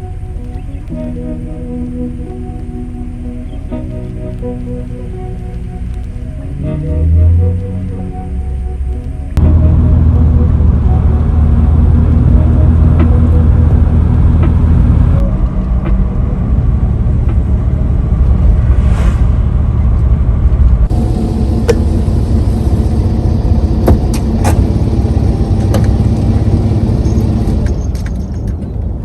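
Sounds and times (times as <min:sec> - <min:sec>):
vehicle engine and road rumble: 0:00.0 - 0:29.0.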